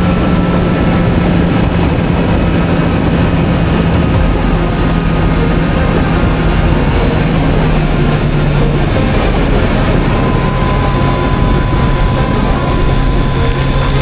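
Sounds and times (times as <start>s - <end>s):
motorcycle engine running: 0.0s - 14.0s
wind noise: 0.0s - 14.0s.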